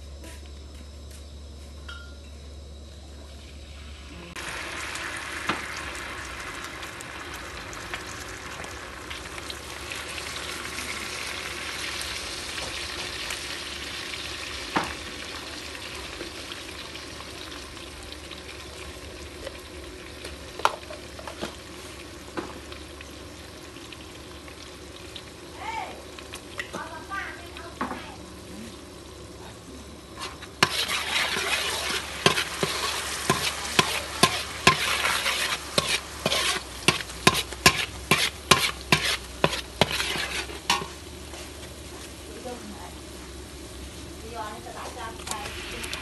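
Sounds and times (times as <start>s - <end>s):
low steady hum: 0.0s - 46.0s
oil sizzling in a wok: 3.1s - 46.0s.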